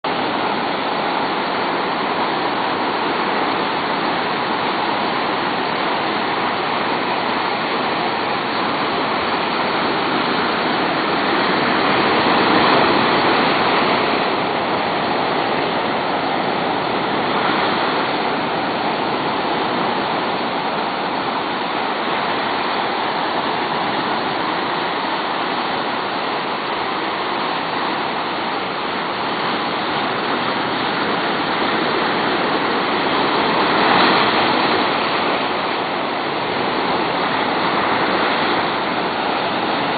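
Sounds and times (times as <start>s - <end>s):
ocean surf washing ashore: 0.1s - 39.9s.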